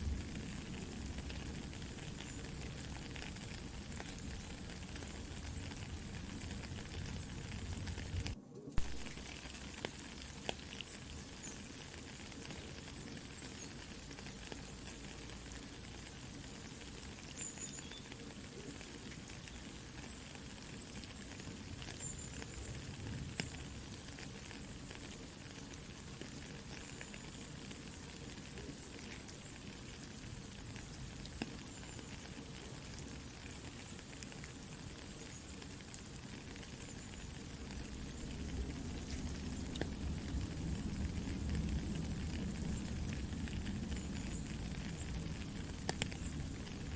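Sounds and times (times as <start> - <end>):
campfire crackling: 0.0 - 46.9
soft steady rain: 0.0 - 46.9.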